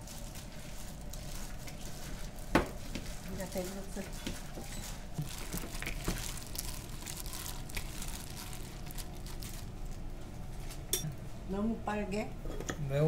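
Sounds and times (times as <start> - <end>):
wet food rustling: 0.0 - 10.8
plastic glove crinkling: 0.0 - 10.9.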